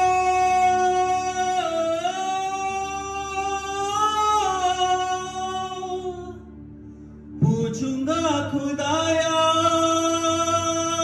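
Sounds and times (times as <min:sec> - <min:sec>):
man singing into microphone: 0:00.0 - 0:06.4, 0:07.4 - 0:11.0.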